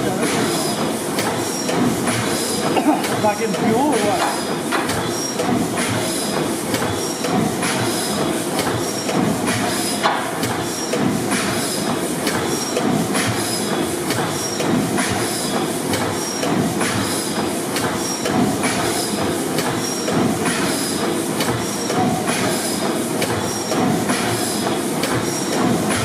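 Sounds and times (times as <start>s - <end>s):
valve gear clicking and clanking: 0.0s - 26.0s.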